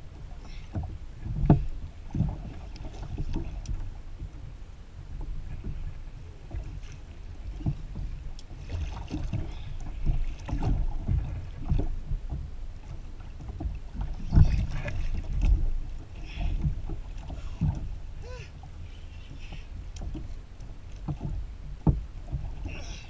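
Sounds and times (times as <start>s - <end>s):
knocks and thumps through hull: 0.0s - 23.0s
water against kayak hull: 0.0s - 23.0s
wind rumbling on microphone: 0.0s - 23.0s.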